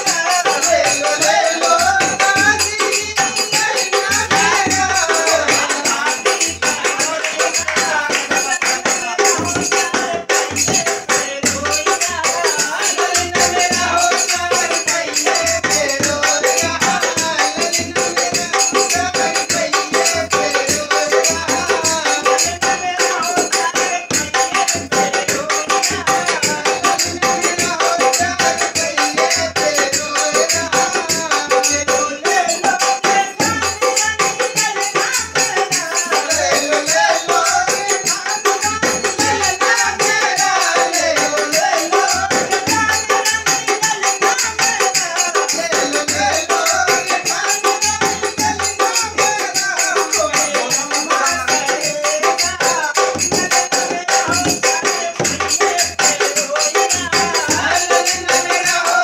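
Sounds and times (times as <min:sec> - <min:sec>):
dholak beat: 0:00.0 - 0:59.0
jingling rattling percussion: 0:00.0 - 0:59.0
person singing folk song: 0:00.0 - 0:59.0.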